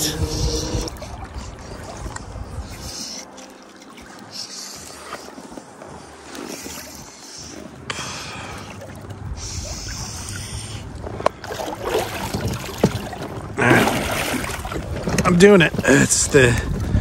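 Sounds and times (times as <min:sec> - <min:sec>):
oars splashing in water: 0:00.0 - 0:17.0.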